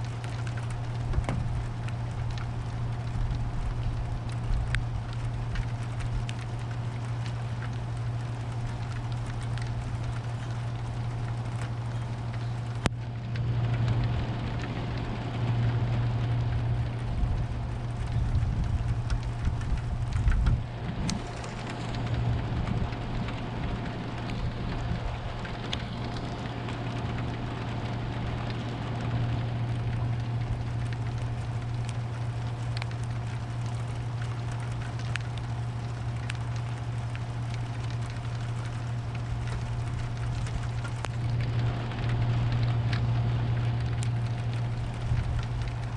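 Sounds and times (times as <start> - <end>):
low hum: 0.0 - 45.9
raindrop ticks: 0.0 - 45.9
steady rain: 0.0 - 45.9.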